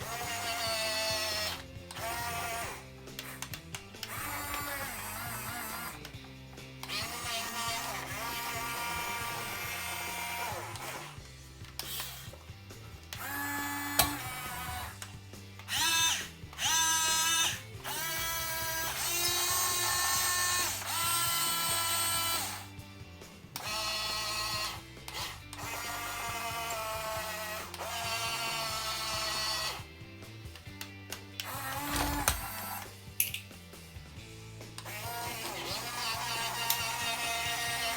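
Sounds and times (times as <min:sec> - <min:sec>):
electric gear motors whining: 0:00.0 - 0:33.0, 0:34.3 - 0:37.9
background music: 0:00.0 - 0:37.9.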